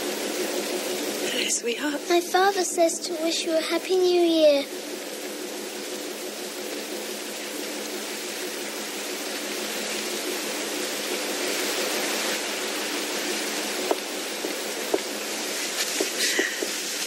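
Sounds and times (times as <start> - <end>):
wind and rain rushing: 0.0 - 17.0.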